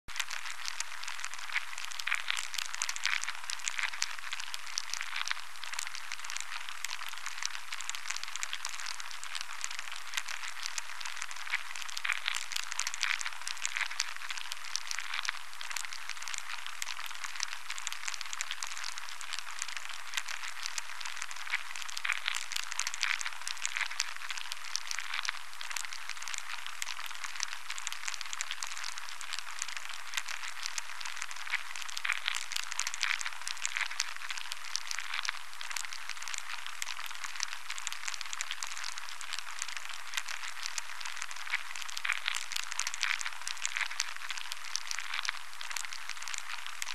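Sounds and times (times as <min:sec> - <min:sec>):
dense crackling: 0:00.1 - 0:46.8.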